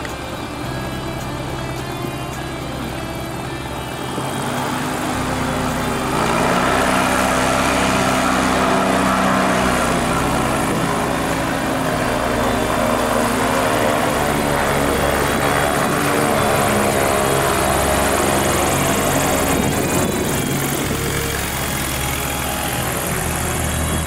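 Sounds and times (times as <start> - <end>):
aircraft piston engine and propeller: 0.0 - 24.0.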